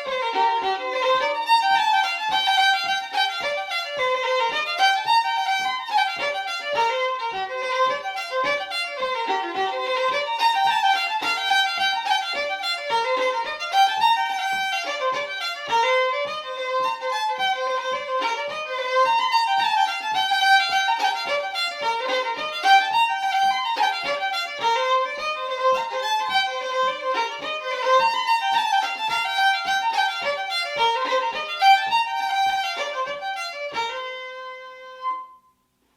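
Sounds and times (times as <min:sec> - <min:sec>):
fiddle playing a fast reel: 0:00.0 - 0:35.1.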